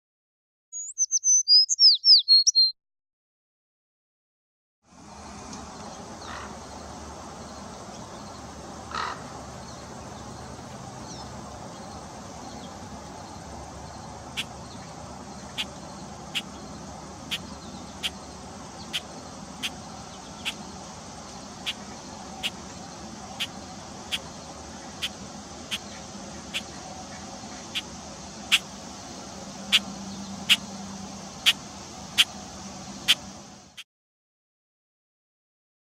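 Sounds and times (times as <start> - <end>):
outdoor background noise: 0.8 - 2.7, 4.8 - 33.8.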